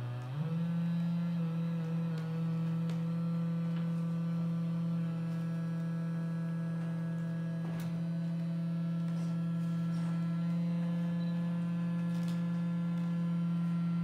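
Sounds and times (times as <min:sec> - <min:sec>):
buzzing electronic drone: 0:00.0 - 0:14.0.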